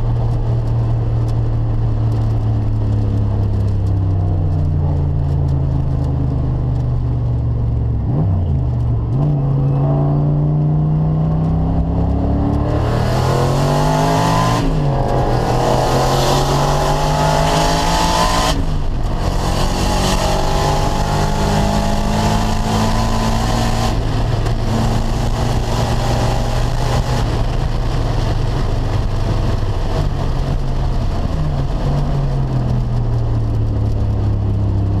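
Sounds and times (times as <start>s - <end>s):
car engine running: 0.0s - 35.0s
wind and road noise: 0.0s - 35.0s.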